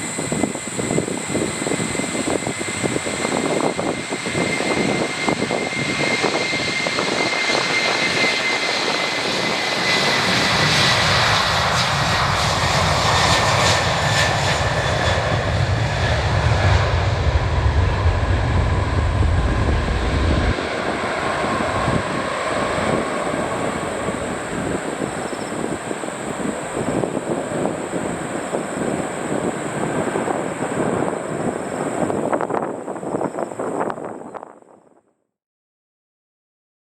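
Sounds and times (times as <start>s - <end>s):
jet engines whine and roar: 0.0s - 35.1s.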